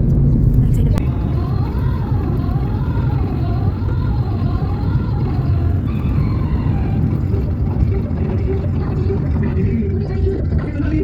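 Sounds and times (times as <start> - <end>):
car engine and road noise: 0.0 - 9.9.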